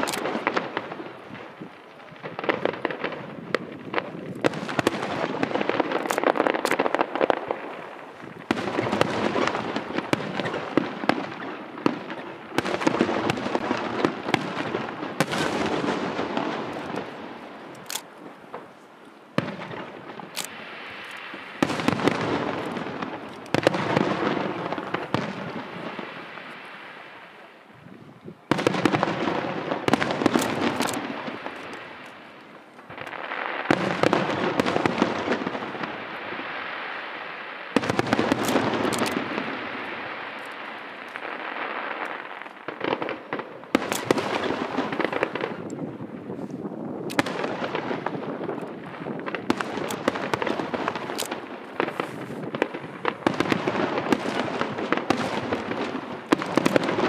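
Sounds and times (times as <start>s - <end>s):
fireworks crackling bangs: 0.0s - 57.0s.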